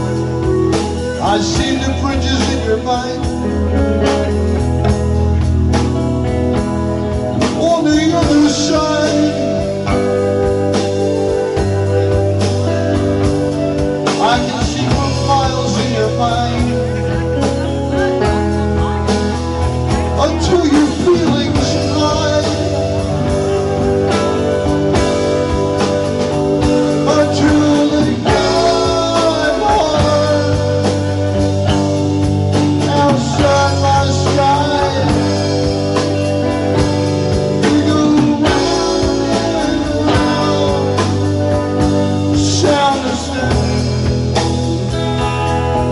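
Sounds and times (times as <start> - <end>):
drum kit: 0.0 - 45.9
electric bass: 0.0 - 45.9
electric guitar: 0.0 - 45.9
keyboard: 0.0 - 45.9
person singing: 0.0 - 45.9.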